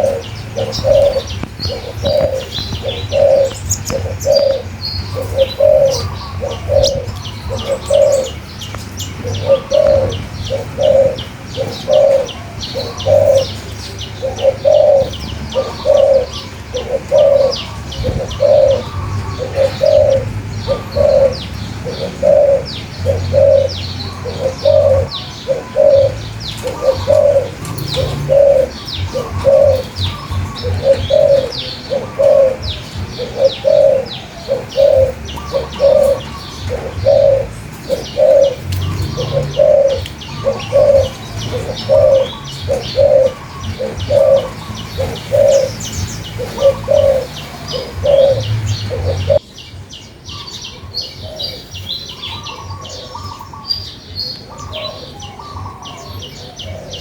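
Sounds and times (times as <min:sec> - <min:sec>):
bird cooing: 0:00.0 - 0:49.5, 0:50.3 - 0:57.0
small birds chirping: 0:00.0 - 0:57.0.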